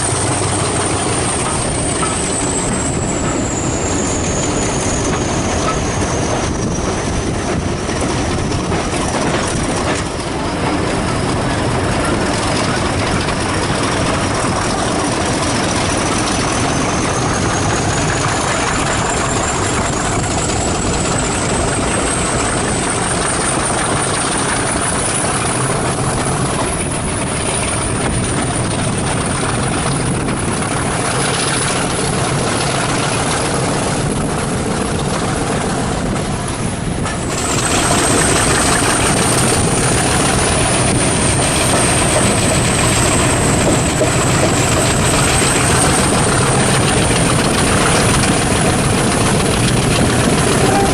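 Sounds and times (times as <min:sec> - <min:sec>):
diesel locomotive engine running: 0:00.0 - 0:50.9.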